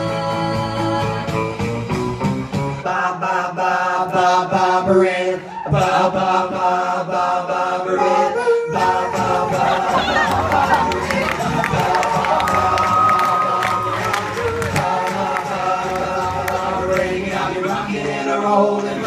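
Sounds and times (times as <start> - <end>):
voices singing pop music in harmony: 0.0 - 19.0.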